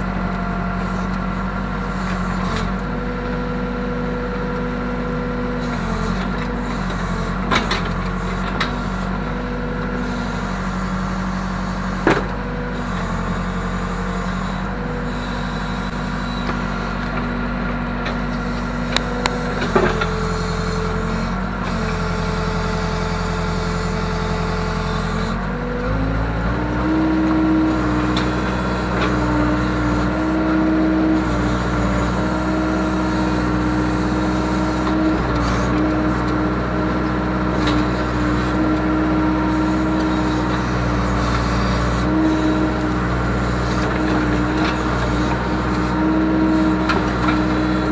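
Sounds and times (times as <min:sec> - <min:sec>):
backhoe diesel engine: 0:00.0 - 0:47.9.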